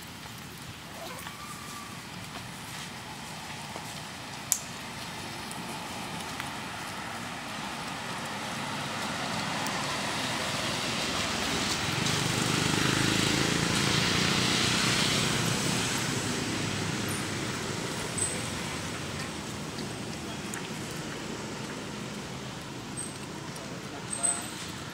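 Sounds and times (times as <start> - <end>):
road vehicle passing: 2.0 - 24.9.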